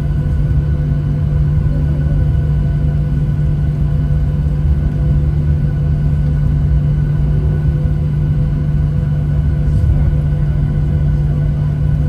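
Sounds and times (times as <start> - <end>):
low engine hum: 0.0 - 12.0
rumble: 0.0 - 12.0.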